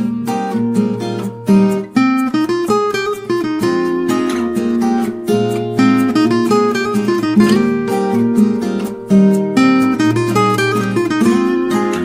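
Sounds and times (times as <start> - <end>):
plucked instrumental melody: 0.0 - 12.0.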